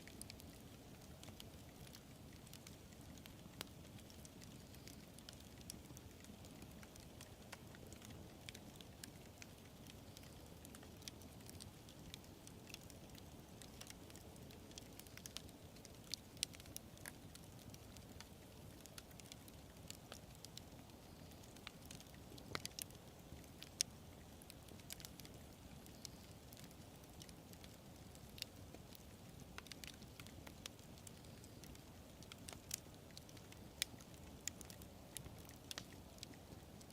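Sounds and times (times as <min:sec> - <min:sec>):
fire crackles and pops: 0:00.0 - 0:36.9
low rumble of flames: 0:00.0 - 0:36.9.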